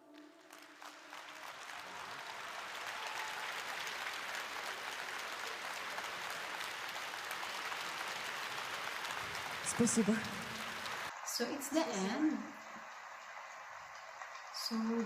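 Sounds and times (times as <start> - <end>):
audience applause: 0.0 - 15.0.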